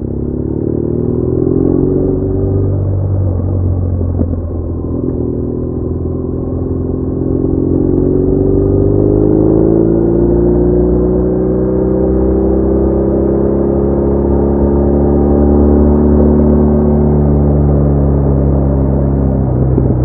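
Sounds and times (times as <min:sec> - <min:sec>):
motorcycle engine under way: 0:00.0 - 0:20.0.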